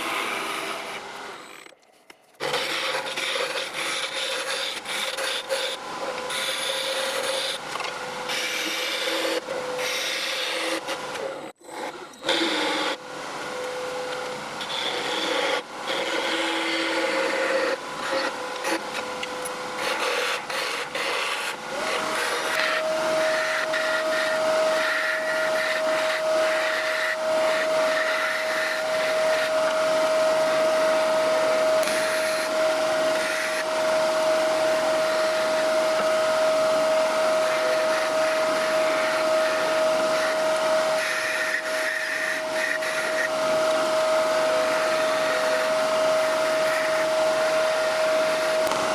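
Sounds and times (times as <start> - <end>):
lathe motor whining: 0.0 - 1.8, 2.4 - 48.9.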